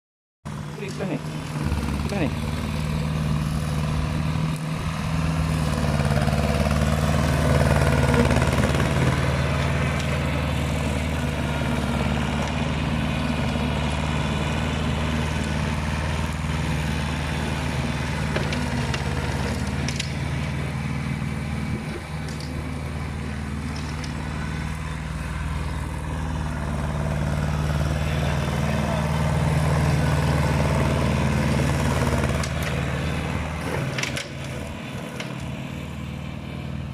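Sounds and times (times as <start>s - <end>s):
tractor diesel engine running: 0.5s - 36.9s.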